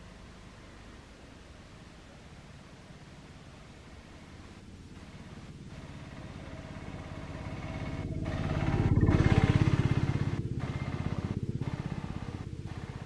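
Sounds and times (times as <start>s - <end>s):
autorickshaw passing: 0.0s - 13.0s
bus approaching: 0.0s - 13.0s.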